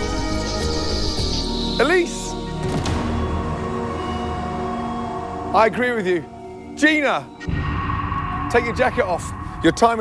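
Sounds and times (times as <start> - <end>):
tense background music: 0.0 - 10.0.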